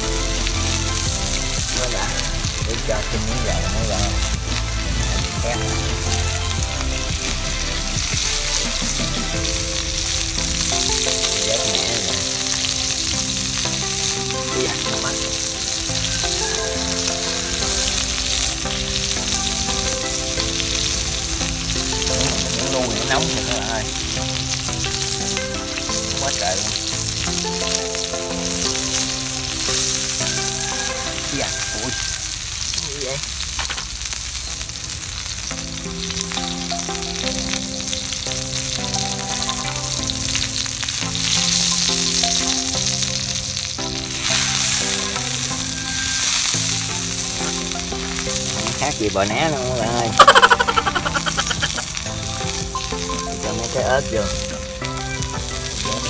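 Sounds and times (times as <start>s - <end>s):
background music: 0.0s - 32.6s, 34.0s - 56.0s
beef sizzling and crackling: 0.0s - 56.0s.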